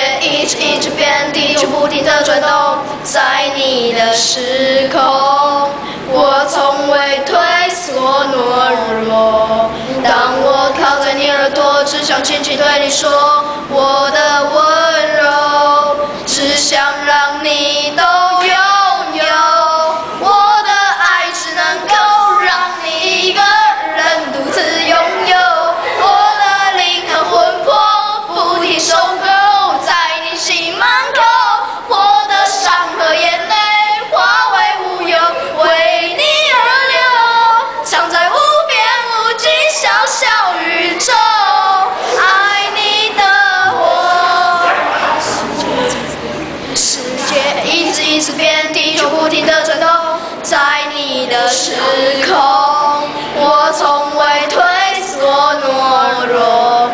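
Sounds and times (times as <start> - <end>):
children singing pop song: 0.0 - 56.9.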